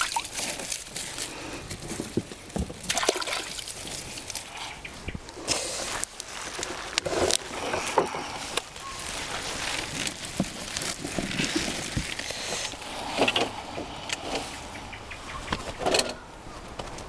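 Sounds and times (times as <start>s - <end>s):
leaves and stems rustling: 0.0s - 17.0s.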